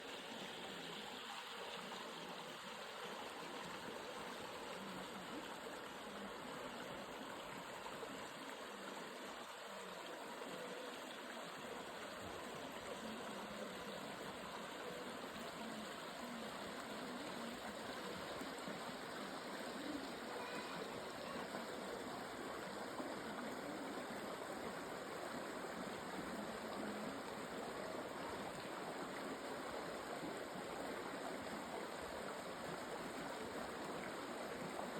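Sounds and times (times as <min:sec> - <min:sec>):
stream water splashing over rocks: 0:00.1 - 0:34.9.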